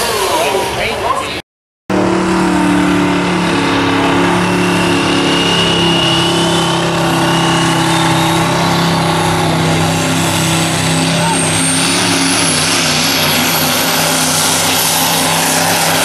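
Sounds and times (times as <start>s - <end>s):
faint high whine rising in pitch: 1.9s - 15.9s
diesel truck engine at high revs: 1.9s - 16.0s.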